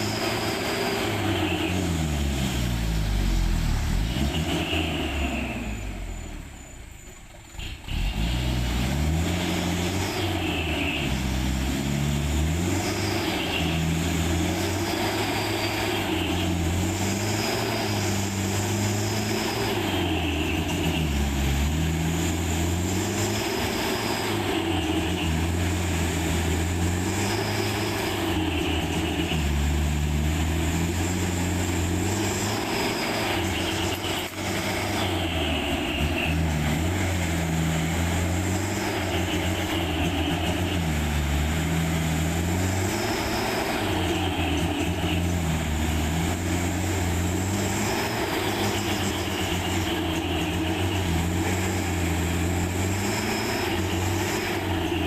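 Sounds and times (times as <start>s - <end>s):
truck engine revving on a climb: 0.0s - 55.0s.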